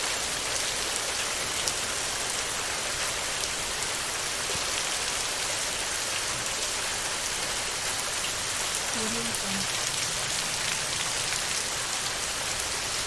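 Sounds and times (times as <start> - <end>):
heavy rain on a tin roof: 0.0 - 13.0.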